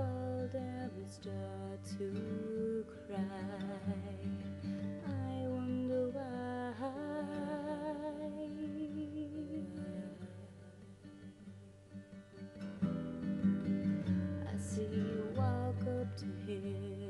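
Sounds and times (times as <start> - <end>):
person singing with vibrato: 0.0 - 11.2, 14.4 - 17.0
strummed acoustic guitar: 0.0 - 17.0.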